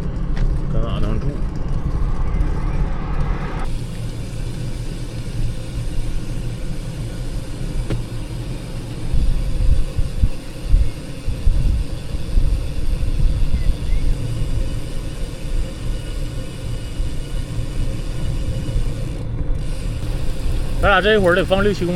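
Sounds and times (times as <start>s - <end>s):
wind and road noise: 0.0s - 21.9s.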